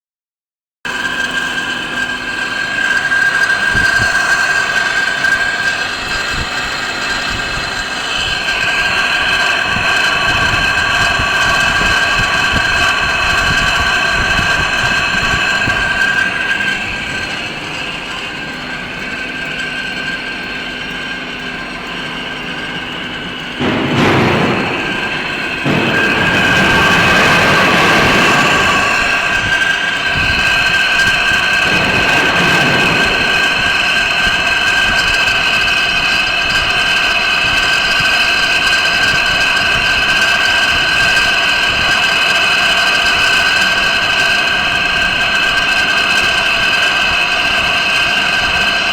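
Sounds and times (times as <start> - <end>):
loud rough noise: 0.9 - 48.9
machine noise: 0.9 - 48.9.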